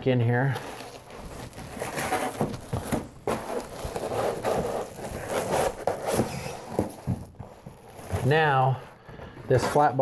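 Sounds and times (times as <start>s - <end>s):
foam board scraping and rustling: 0.6s - 10.0s.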